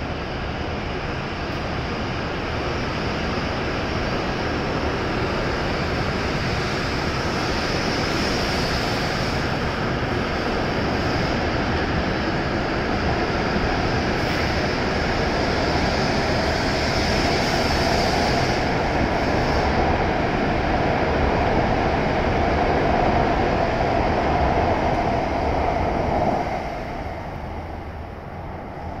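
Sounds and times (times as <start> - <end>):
train rushing past: 0.0 - 29.0.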